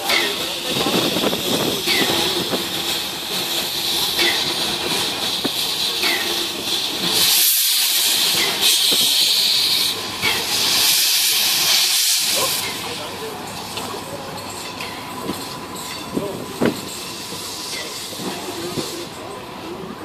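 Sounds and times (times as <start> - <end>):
steam locomotives hissing steam: 0.0 - 20.0.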